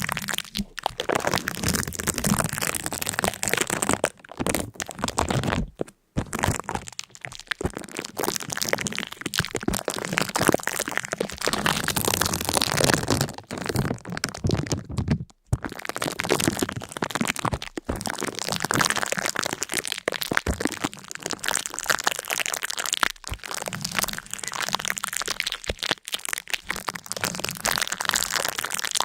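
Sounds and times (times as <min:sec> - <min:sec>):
crackling and crunching: 0:00.0 - 0:29.0.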